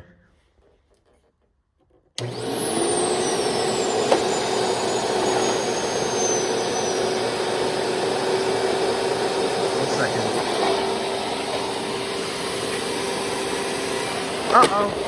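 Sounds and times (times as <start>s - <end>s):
vacuum cleaner running: 2.2s - 15.0s.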